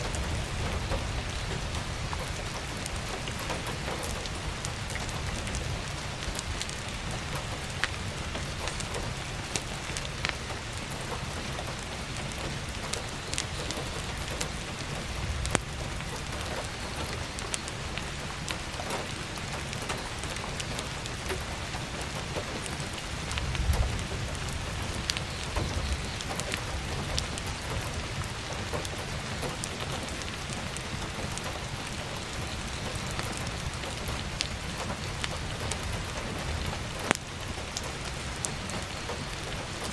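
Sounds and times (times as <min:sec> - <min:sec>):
crackling firewood: 0:00.0 - 0:39.9
heavy rain on a skylight: 0:00.0 - 0:39.9.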